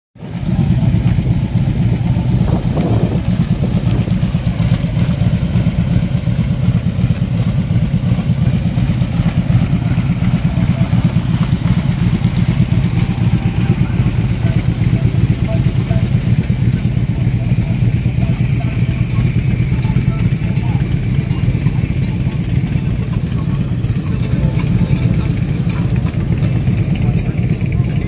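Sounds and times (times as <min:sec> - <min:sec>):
motorcycle engine idling: 0:00.2 - 0:28.0.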